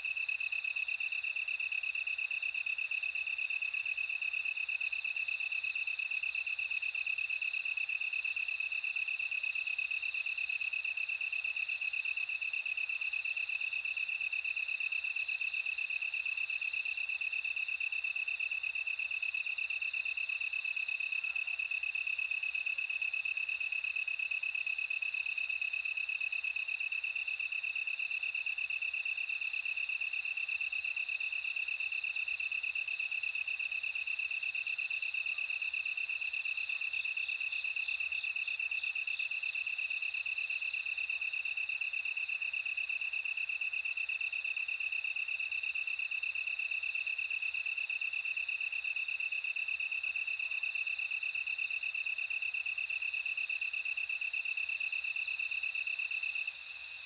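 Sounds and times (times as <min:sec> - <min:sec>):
ringing cricket chirps: 0:00.0 - 0:57.0.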